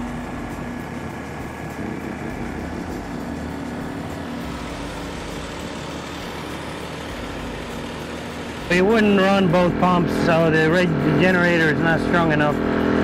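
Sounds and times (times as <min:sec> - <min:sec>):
heavy equipment engine drone: 0:00.0 - 0:13.0.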